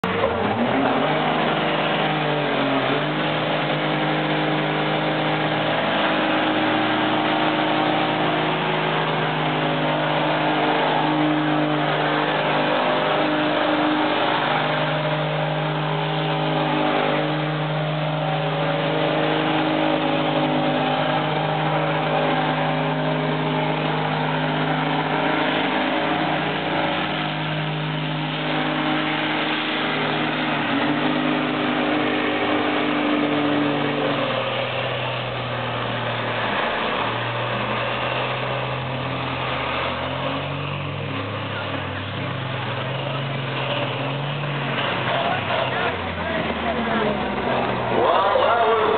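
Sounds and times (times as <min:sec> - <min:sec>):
truck engines revving: 0:00.0 - 0:48.9.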